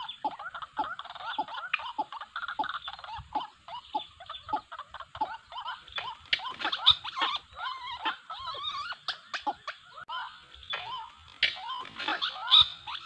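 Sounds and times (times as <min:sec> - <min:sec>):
waterhen croaking calls: 0:00.0 - 0:13.0.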